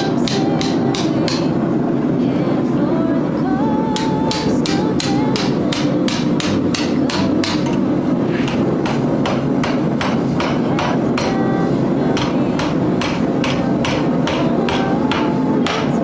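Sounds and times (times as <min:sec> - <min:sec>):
hammer striking steel on anvil: 0:00.0 - 0:01.6, 0:04.0 - 0:11.4, 0:12.1 - 0:16.0
steady low rush: 0:00.0 - 0:16.0.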